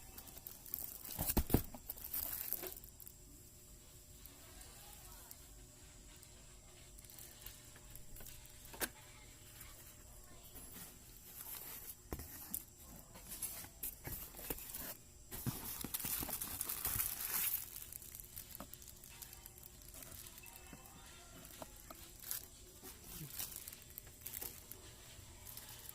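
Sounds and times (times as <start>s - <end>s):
packaging rustling and crinkling: 0.0s - 3.1s, 6.8s - 9.0s, 9.6s - 25.9s.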